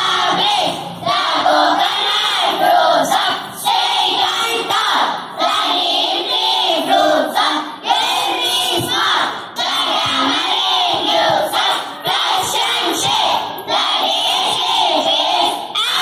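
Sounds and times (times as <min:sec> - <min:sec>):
children chanting in unison: 0:00.0 - 0:16.0.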